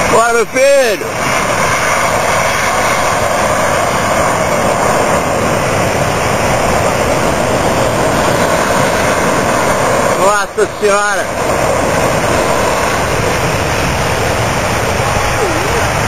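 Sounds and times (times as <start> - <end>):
jet airliner engine roar: 0.0 - 16.0.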